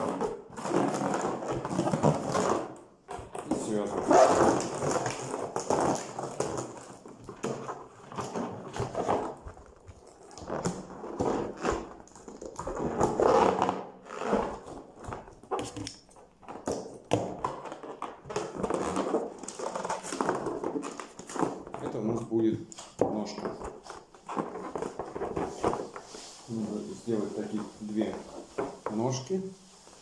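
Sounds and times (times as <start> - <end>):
balloons squeaking and rubbing: 0.0 - 30.0.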